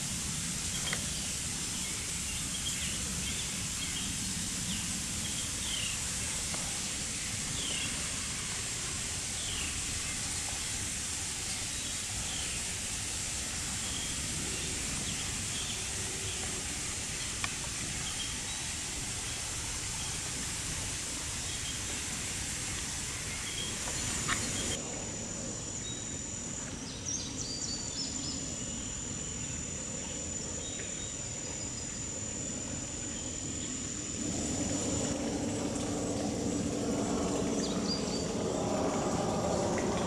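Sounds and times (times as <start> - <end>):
steady hiss: 0.0 - 35.7
distant engine hum: 0.0 - 40.0
insect drone: 0.0 - 40.0.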